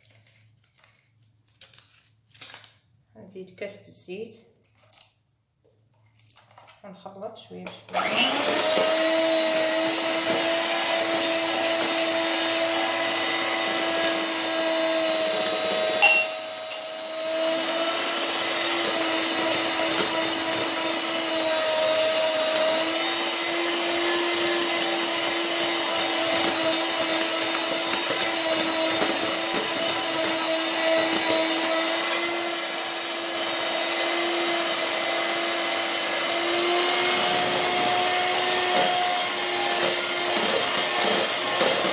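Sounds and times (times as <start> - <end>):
electric hand mixer whining: 7.9 - 41.9.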